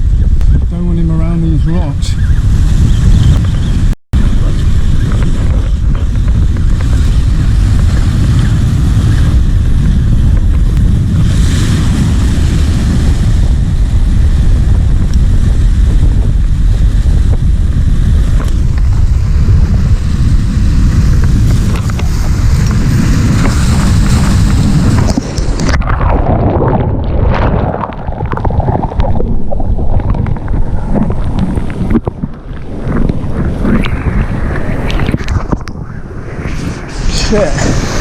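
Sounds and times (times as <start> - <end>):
wind buffeting microphone: 0.0 - 38.0
water rushing and gurgling: 4.2 - 38.0
wave washing over: 4.2 - 38.0.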